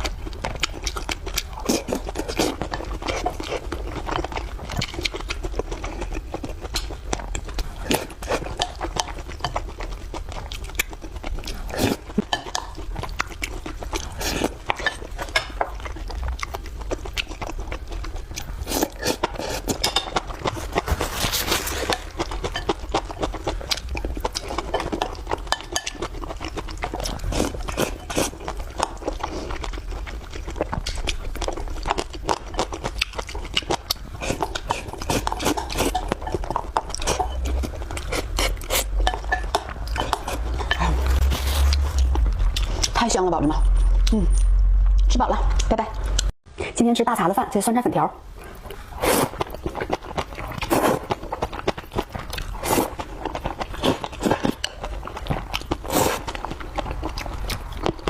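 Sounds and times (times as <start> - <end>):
person chewing and smacking food: 0.0 - 43.0, 48.4 - 58.0.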